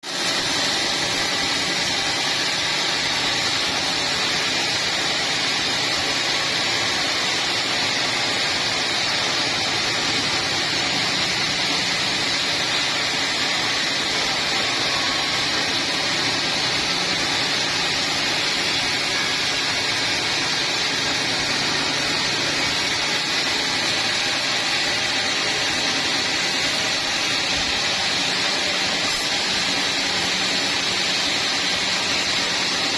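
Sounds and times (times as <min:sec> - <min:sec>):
sawmill machinery whining: 0:00.0 - 0:32.9.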